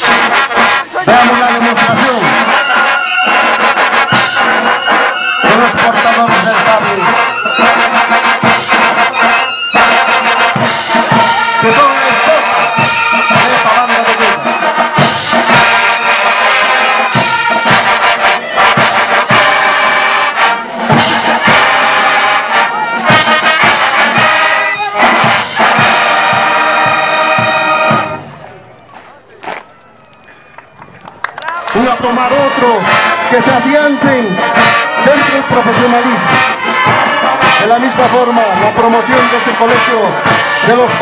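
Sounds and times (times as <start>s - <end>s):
drum beat: 0.0s - 28.4s, 31.6s - 41.0s
marching band playing: 0.0s - 41.0s.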